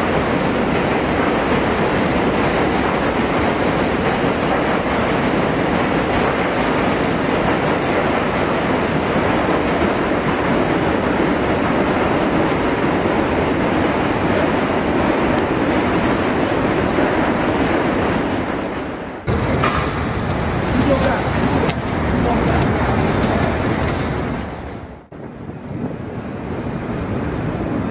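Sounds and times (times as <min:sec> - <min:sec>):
steady rumbling noise: 0:00.0 - 0:27.9.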